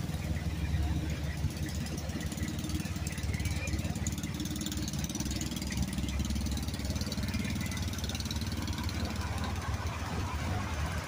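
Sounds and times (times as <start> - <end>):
vehicle engine running slowly: 0.0 - 11.0.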